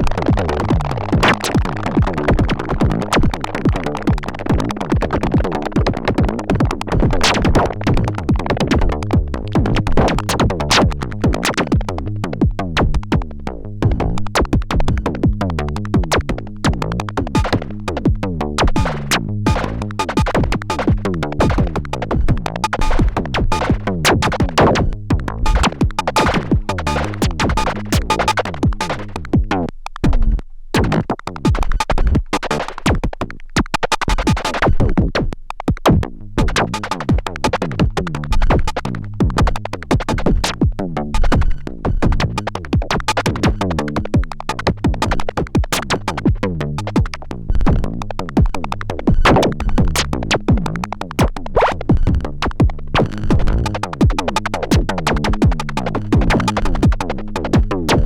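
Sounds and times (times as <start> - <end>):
fast electronic drum pattern: 0.0 - 58.0.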